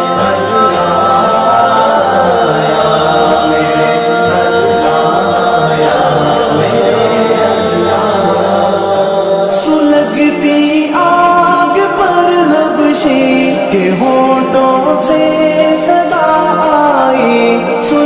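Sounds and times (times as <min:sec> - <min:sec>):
chant-like singing: 0:00.0 - 0:18.0.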